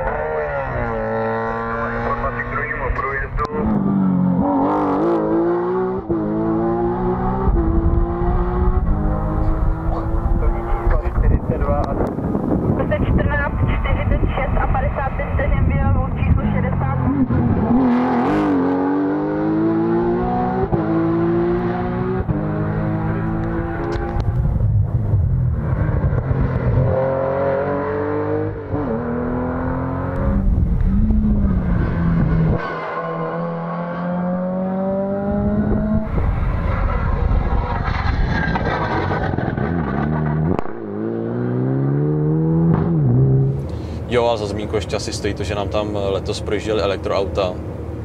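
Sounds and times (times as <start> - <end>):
rally car engine accelerating: 0.0 - 13.1, 16.1 - 44.0.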